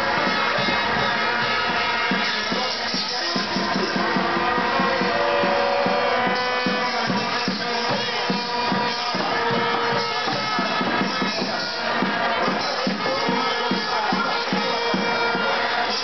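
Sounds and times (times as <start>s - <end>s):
drums beating: 0.0s - 16.0s
vuvuzelas droning: 0.0s - 16.0s.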